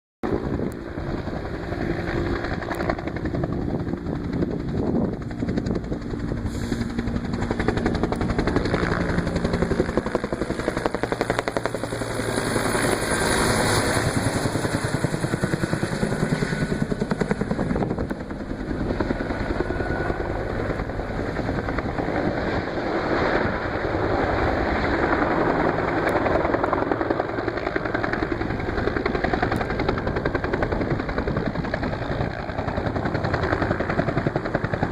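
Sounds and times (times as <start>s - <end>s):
helicopter rotor beating: 0.2s - 34.9s.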